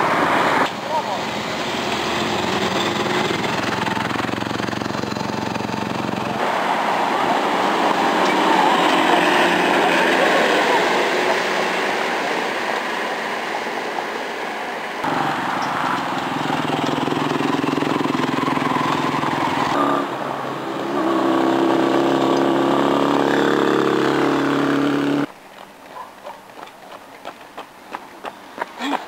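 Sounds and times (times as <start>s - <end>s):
motor traffic: 0.0s - 29.0s
street noise: 0.0s - 29.0s
motorcycle engine hum: 0.8s - 25.3s.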